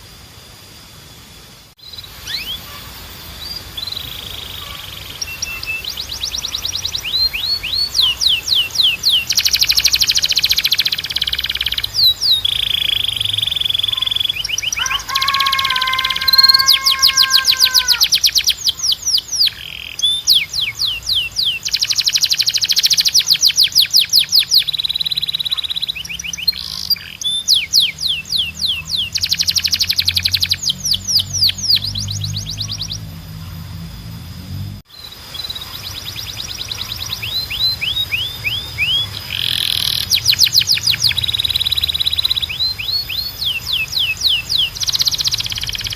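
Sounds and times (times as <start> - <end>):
canary singing trills: 1.8 - 33.9, 34.9 - 45.9.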